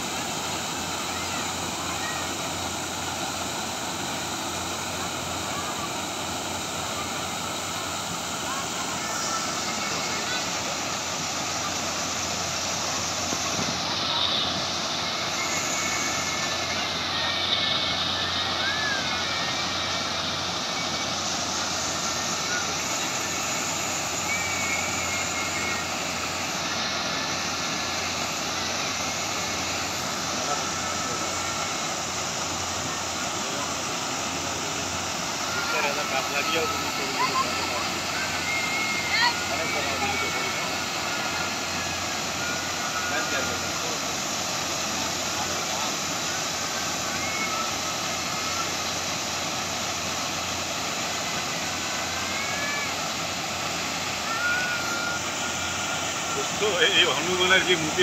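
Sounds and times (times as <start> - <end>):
slurry rushing from pipe: 0.0 - 58.0.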